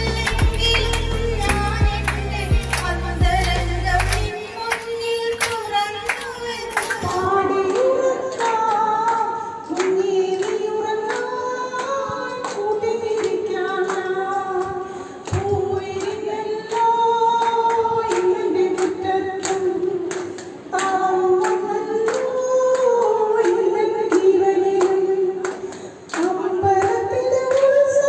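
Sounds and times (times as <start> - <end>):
women singing together: 0.0 - 28.0
hand claps: 0.1 - 27.8.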